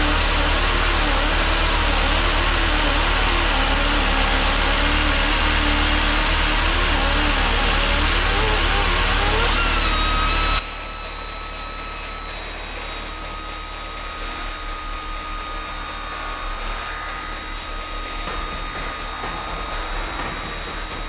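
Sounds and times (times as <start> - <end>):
pneumatic angle grinder running: 0.0 - 21.0.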